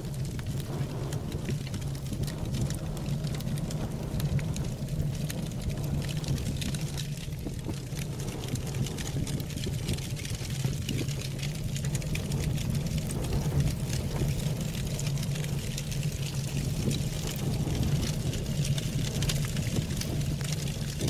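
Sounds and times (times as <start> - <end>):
burning matches crackling: 0.0 - 21.0.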